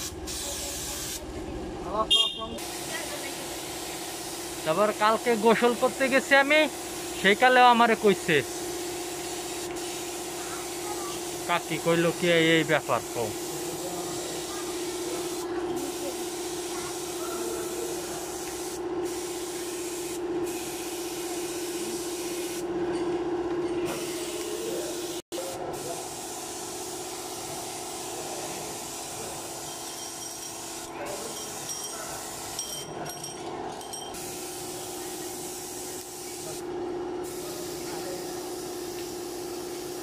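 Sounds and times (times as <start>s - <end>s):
spray gun hissing: 0.0s - 1.2s, 2.6s - 22.6s, 23.9s - 29.6s, 34.2s - 40.0s.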